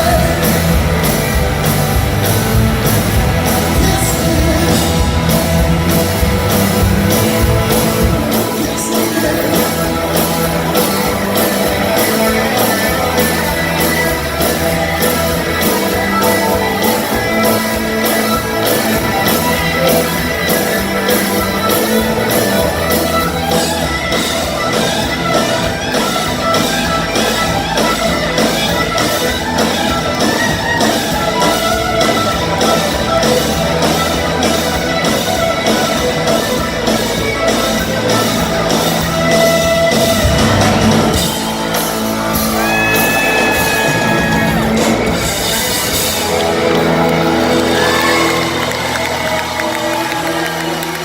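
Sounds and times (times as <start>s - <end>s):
bass and drums beat: 0.0s - 51.0s
electric guitar: 0.0s - 51.0s.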